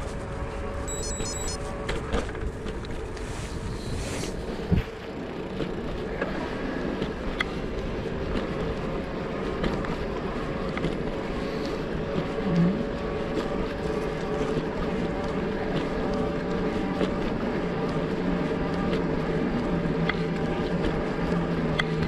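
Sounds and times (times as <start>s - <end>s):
bike riding hum: 0.0s - 22.0s.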